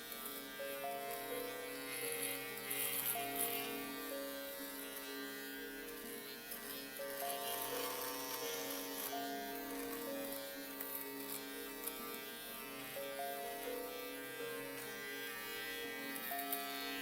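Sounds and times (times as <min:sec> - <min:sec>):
electric shaver buzzing: 0:00.0 - 0:17.0.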